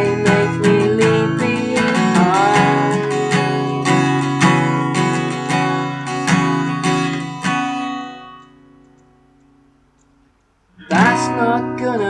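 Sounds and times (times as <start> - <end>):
acoustic guitar strumming chords: 0.0 - 9.8, 10.8 - 12.0.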